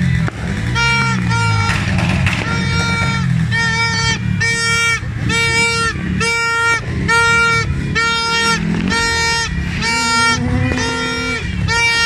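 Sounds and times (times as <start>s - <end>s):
low rumble of street noise: 0.0s - 12.0s
car alarm horn beeping: 0.6s - 12.0s.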